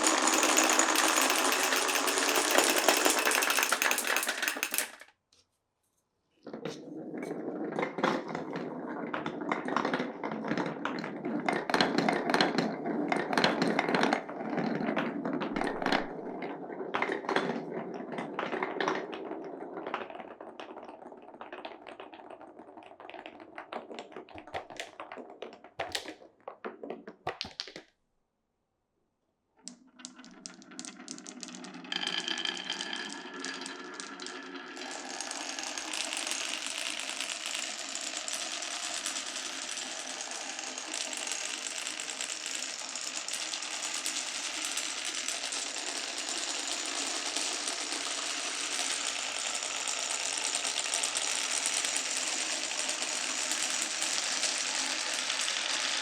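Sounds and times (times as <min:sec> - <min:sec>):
marbles clicking in wooden run: 0:00.0 - 0:05.1, 0:07.0 - 0:27.8, 0:29.7 - 0:56.0
marbles rolling and rattling: 0:00.0 - 0:05.1, 0:06.5 - 0:27.8, 0:29.6 - 0:56.0.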